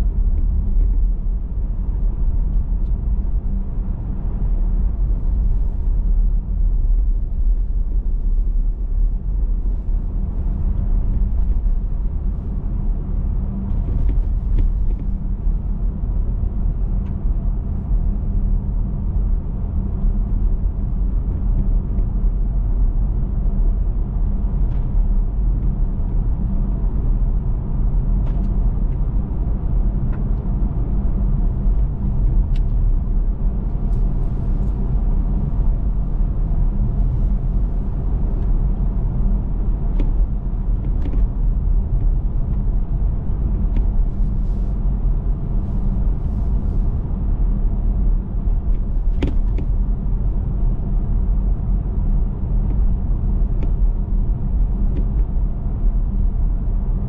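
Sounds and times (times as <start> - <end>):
car driving rumble: 0.0 - 57.0.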